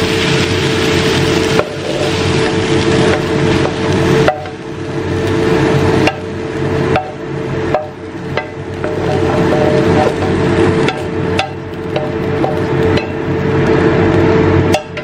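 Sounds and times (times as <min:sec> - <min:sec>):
wooden spatula scraping a wok: 0:00.0 - 0:04.6, 0:05.2 - 0:13.4
steady hum: 0:00.0 - 0:15.0.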